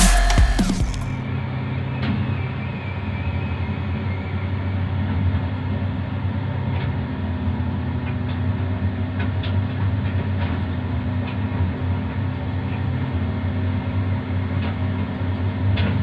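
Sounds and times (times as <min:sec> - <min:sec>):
truck diesel engine humming: 0:00.0 - 0:16.0.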